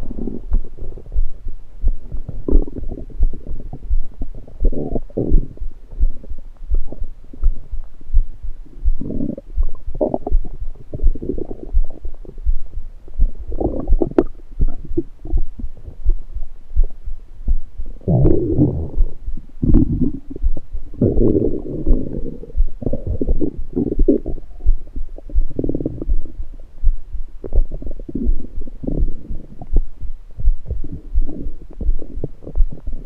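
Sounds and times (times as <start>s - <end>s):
steady low pulse: 0.0s - 33.0s
stomach gurgling and rumbling: 0.0s - 33.0s.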